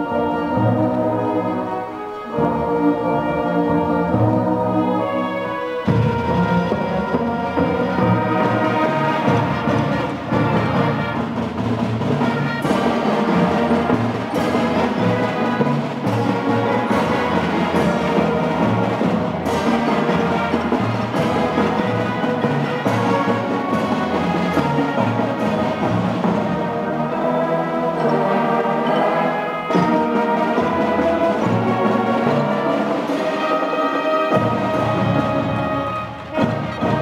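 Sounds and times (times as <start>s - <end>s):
brass chords: 0.0s - 37.0s
percussion hits: 5.8s - 37.0s.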